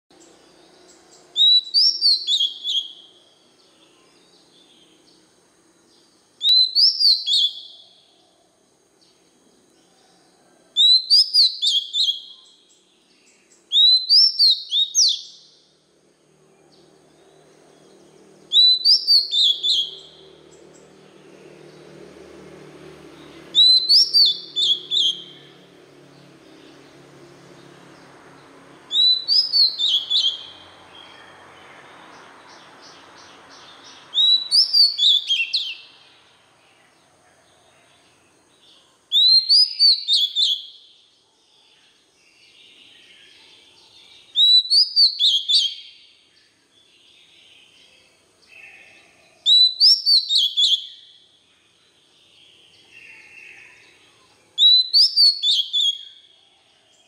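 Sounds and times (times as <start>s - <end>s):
bird singing whistled notes: 0.1s - 8.3s, 10.7s - 15.9s, 16.6s - 37.0s, 37.7s - 57.0s.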